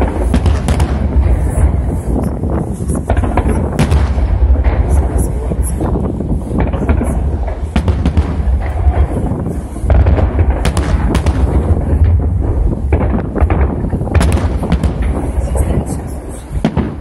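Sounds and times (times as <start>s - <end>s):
deep rumble: 0.0s - 17.0s
fireworks cracking and booming: 0.0s - 17.0s.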